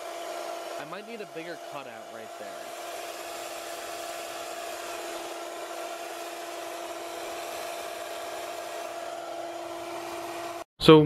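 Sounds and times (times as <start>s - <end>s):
turbine and generator humming: 0.0s - 10.7s.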